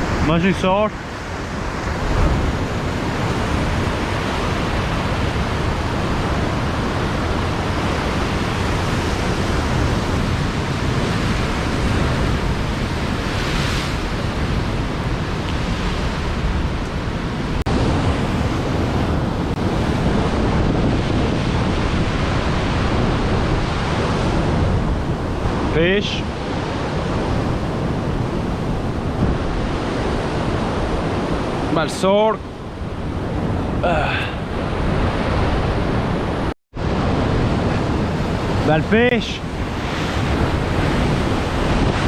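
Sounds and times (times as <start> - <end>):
sea surf washing on shore: 0.0 - 42.0
wind buffeting microphone: 0.9 - 38.7, 39.4 - 42.0.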